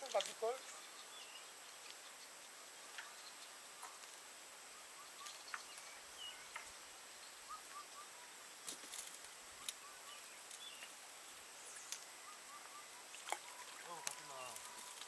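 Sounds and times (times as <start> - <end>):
soft hiss: 0.0 - 15.0
bird chirps: 0.1 - 4.1, 4.7 - 8.3, 9.6 - 10.9, 11.6 - 15.0.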